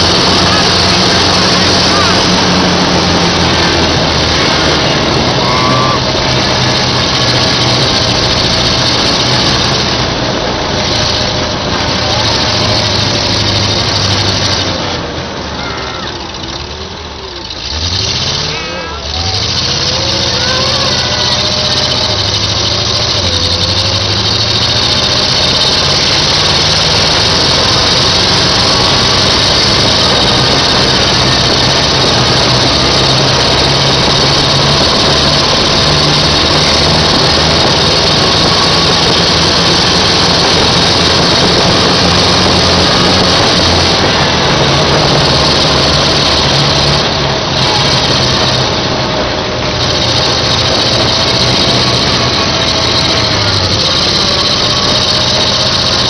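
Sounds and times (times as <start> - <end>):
tank engine running: 0.0 - 56.0.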